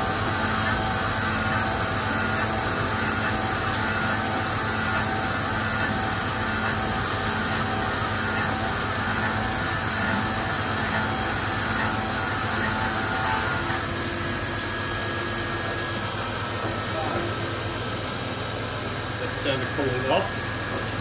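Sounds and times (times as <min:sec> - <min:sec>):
cnc spindle high whine: 0:00.0 - 0:21.0.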